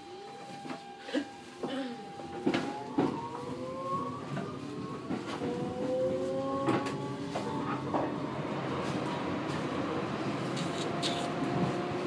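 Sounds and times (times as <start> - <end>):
traction motors whining: 1.6 - 12.0.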